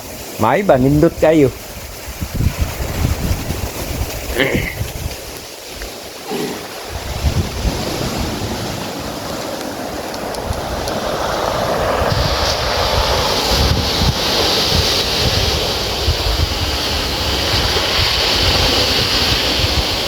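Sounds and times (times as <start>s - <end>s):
waves washing over stony beach: 0.0s - 20.0s
wind buffeting microphone: 0.0s - 20.0s.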